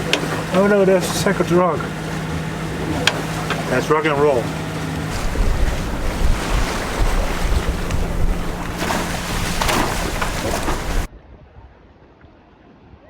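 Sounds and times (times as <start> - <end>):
water rushing past boat: 0.0 - 11.1
wind buffeting microphone: 0.0 - 11.1.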